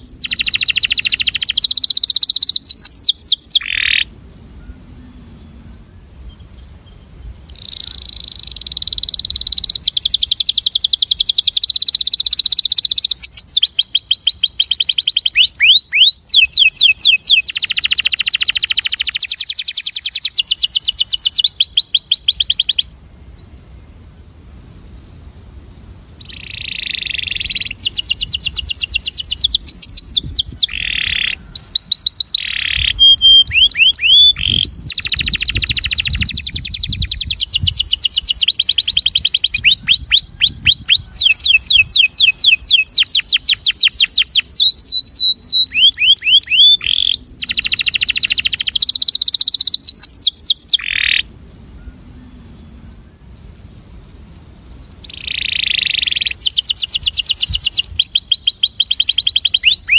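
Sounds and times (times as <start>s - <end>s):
canary singing rolling trills: 0.0s - 5.6s, 6.3s - 22.9s, 26.2s - 59.9s.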